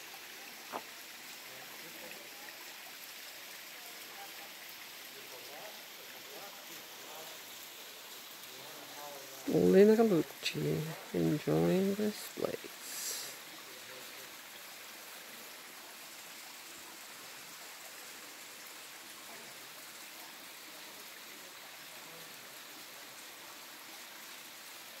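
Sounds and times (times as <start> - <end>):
small waterfall trickling: 0.0 - 25.0.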